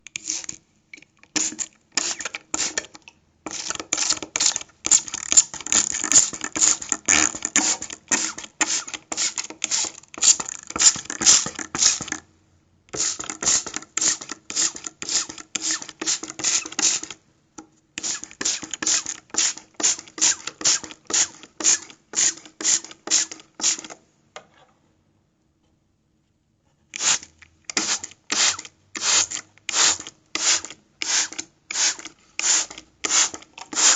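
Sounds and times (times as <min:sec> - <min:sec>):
spray bottle spritzing: 0:00.1 - 0:00.6, 0:01.4 - 0:02.9, 0:03.5 - 0:12.2, 0:13.0 - 0:17.1, 0:18.0 - 0:23.9, 0:27.0 - 0:33.9.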